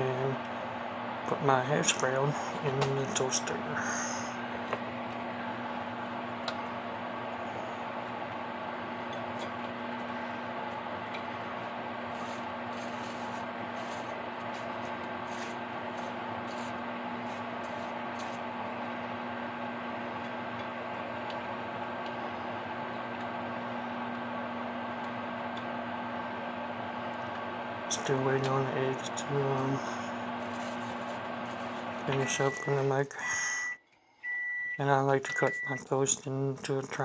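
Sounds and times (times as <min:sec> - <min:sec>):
microwave oven humming: 0:00.0 - 0:37.0.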